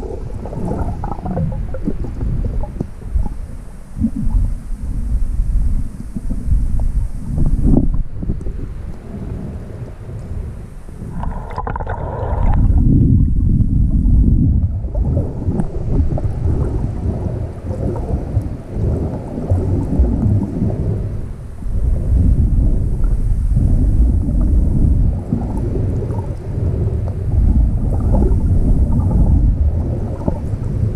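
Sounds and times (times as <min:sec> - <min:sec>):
low rumbling buffeting on microphone: 0:00.0 - 0:30.9.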